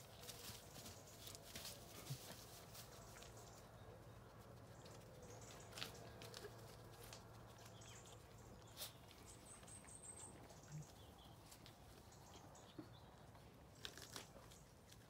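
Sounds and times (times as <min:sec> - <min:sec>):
alpacas chewing apples: 0:00.0 - 0:15.0.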